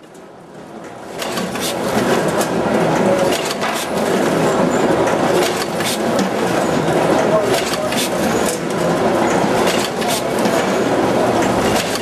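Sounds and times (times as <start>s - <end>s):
bagging machine din: 0.7s - 12.0s
machine clacks and rattles: 0.8s - 12.0s.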